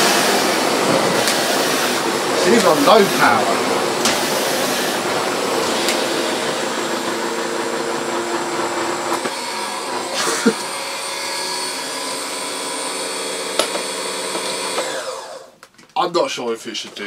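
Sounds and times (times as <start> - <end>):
vacuum cleaner on carpet: 0.0 - 15.5.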